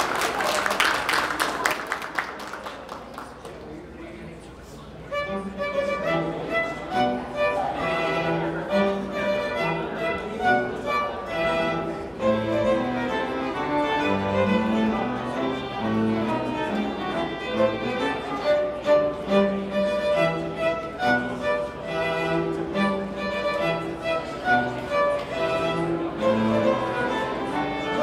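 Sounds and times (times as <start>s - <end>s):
string quartet playing: 4.9s - 28.0s.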